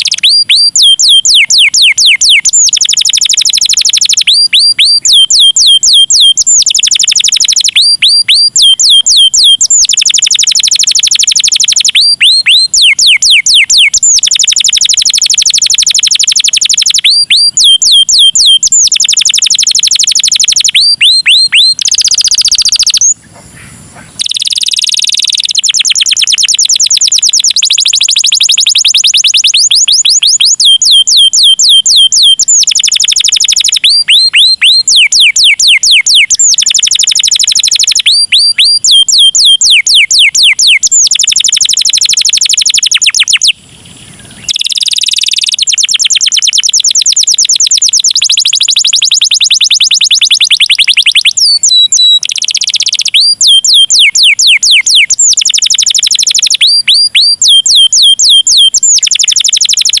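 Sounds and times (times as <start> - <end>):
canary singing trills: 0.0 - 60.0.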